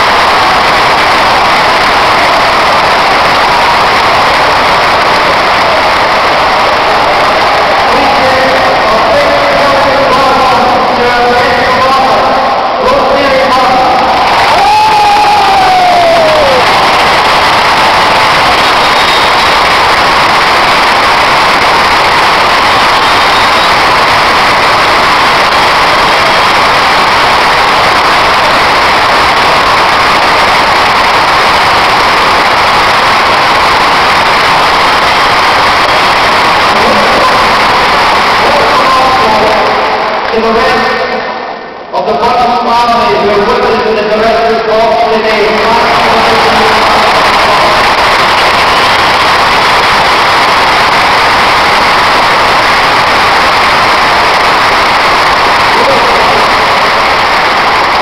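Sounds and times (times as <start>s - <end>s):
stadium crowd cheering and singing: 0.0s - 58.0s.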